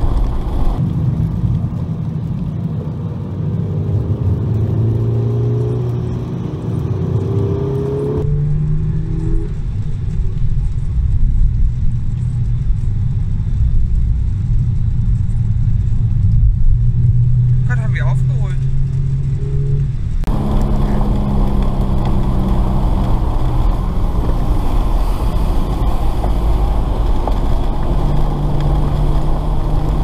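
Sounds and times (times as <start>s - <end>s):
car engine accelerating: 3.5s - 30.0s.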